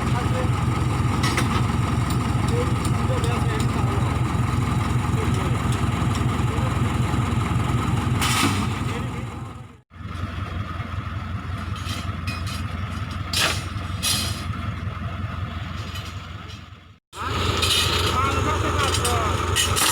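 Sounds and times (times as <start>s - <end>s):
backhoe diesel engine rumble: 0.0s - 19.9s.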